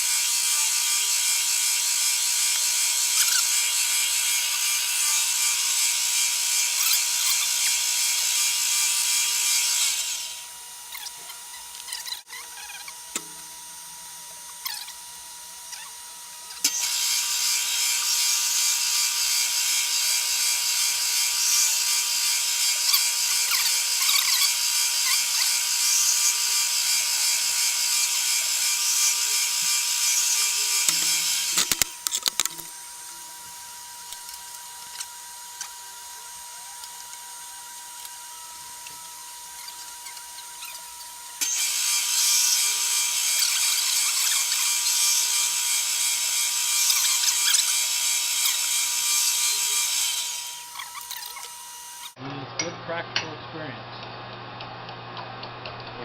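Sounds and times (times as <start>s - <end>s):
machine whine: 0.0s - 53.2s
milling machine cutting wood: 0.0s - 53.2s.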